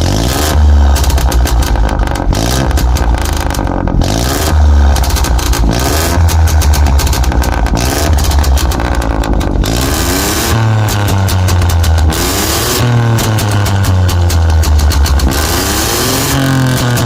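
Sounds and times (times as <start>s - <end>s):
car engine revving: 0.0s - 17.0s
exhaust crackling pops and bangs: 0.0s - 17.0s.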